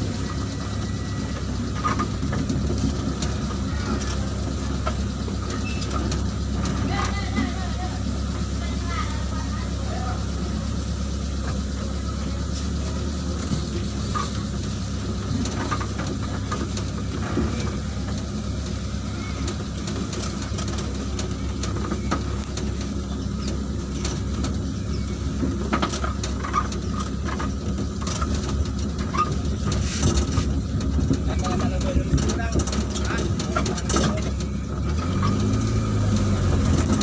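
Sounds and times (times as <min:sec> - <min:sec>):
knocks and rattles: 0:00.0 - 0:37.0
truck engine running: 0:00.0 - 0:37.0.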